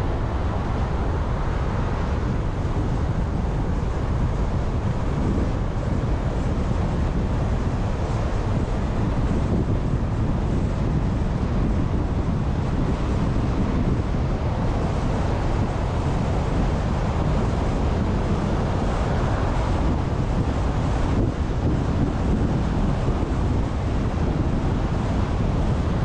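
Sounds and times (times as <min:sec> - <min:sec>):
car wind and road noise: 0:00.0 - 0:26.0.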